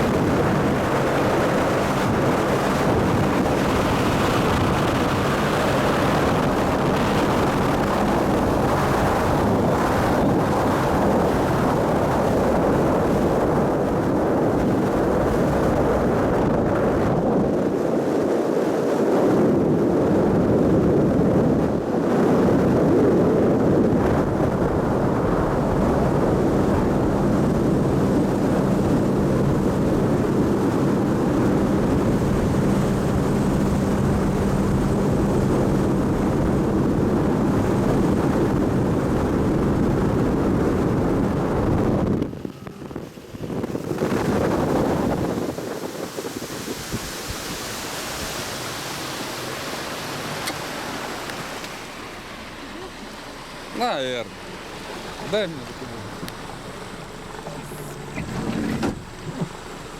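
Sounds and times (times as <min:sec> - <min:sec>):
motorboat engine running: 0:00.0 - 0:59.9
water rushing along hull: 0:00.0 - 0:59.9
wind on microphone: 0:00.0 - 0:59.9.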